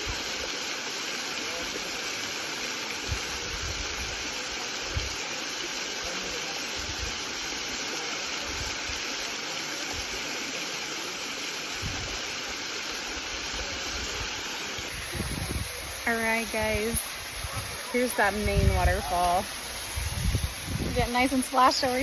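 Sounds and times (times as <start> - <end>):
waterfall splashing: 0.0 - 22.0.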